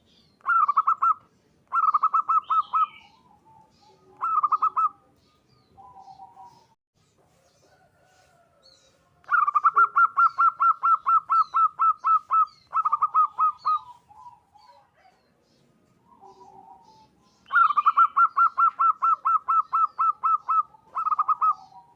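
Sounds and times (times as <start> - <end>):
small bird chirps: 0.0 - 21.9
dove cooing: 0.5 - 6.8, 9.3 - 21.9.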